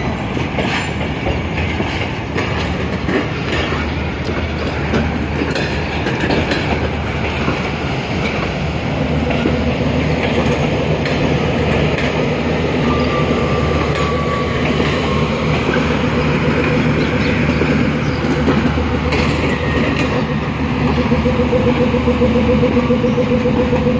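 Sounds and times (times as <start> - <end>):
rail joint clicks: 0.0 - 23.9
train wheels rumbling on rails: 0.0 - 23.9.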